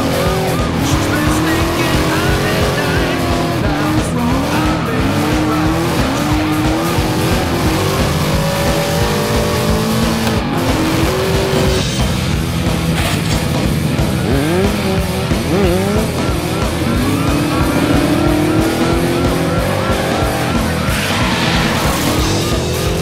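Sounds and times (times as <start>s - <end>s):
background music: 0.0s - 23.0s
engines revving: 0.0s - 23.0s.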